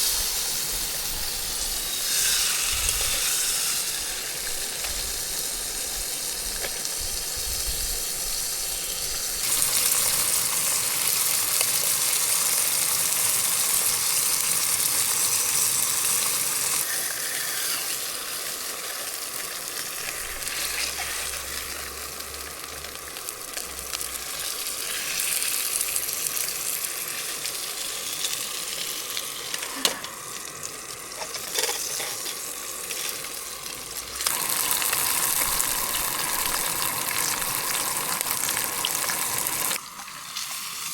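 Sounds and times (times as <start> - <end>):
fish sizzling in a skillet: 0.0 - 40.9.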